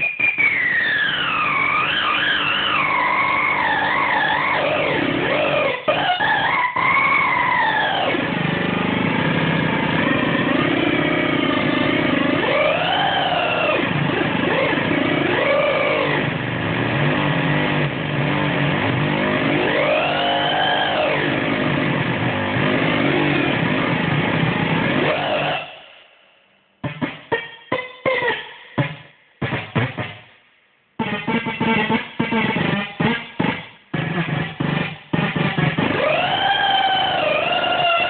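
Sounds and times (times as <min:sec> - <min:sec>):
swooping buzzy synth tone: 0:00.0 - 0:25.9, 0:26.8 - 0:30.4, 0:31.0 - 0:38.0.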